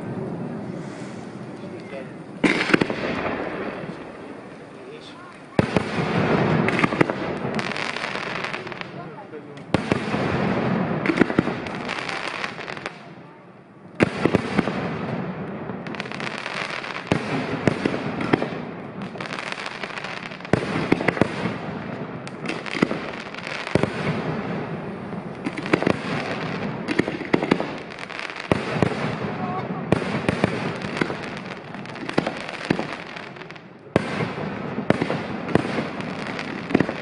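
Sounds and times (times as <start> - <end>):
fireworks bangs: 0.0 - 37.0
fireworks crackle: 0.0 - 37.0.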